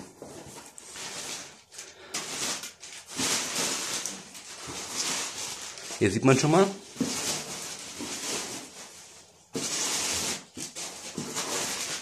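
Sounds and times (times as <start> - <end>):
newspaper rustling and crackling: 0.0 - 12.0.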